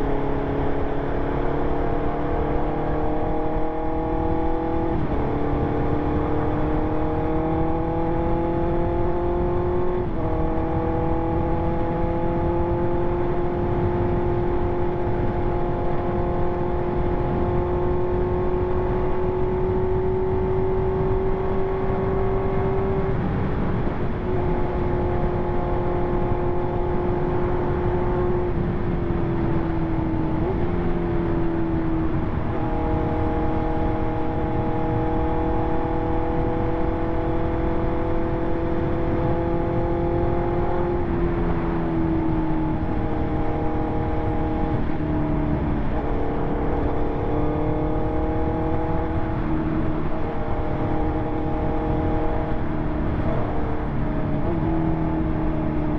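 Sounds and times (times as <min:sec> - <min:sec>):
motorcycle engine cruising: 0:00.0 - 0:55.9
wind and road noise: 0:00.0 - 0:55.9.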